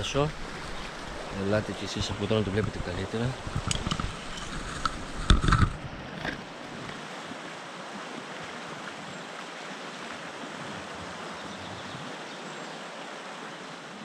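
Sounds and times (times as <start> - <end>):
river water rushing over riffle: 0.0 - 14.0.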